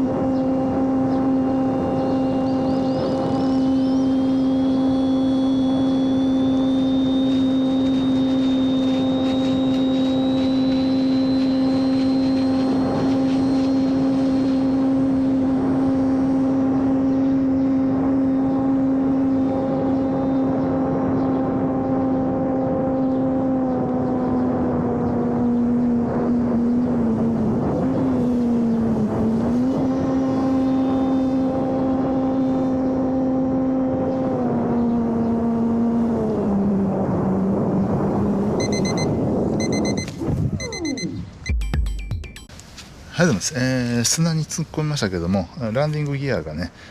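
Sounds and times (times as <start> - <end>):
faint high whine: 0.0 - 22.4, 23.0 - 33.5, 36.1 - 41.6
electric motor and propeller hum: 0.0 - 41.5.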